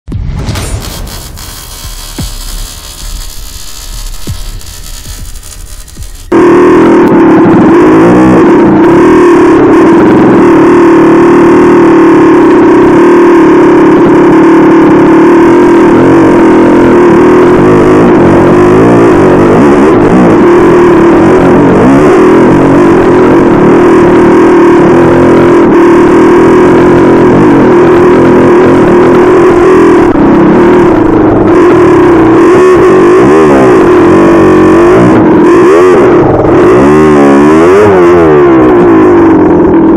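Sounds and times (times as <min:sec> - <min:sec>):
dirt bike engine revving: 0:00.6 - 0:39.9.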